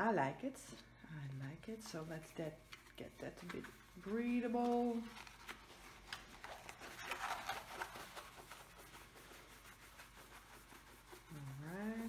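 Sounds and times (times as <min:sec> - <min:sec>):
plastic wrap rustling: 0:01.7 - 0:12.0.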